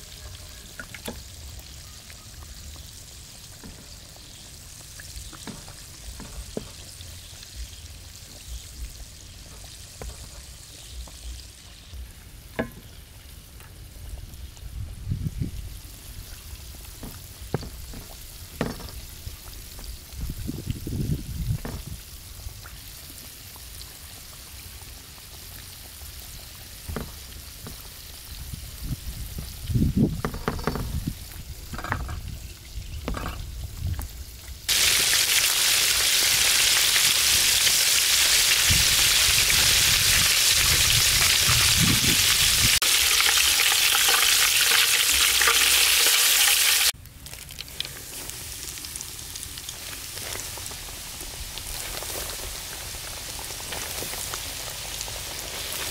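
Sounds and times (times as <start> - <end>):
chicken deep-frying in oil: 0.0 - 55.9.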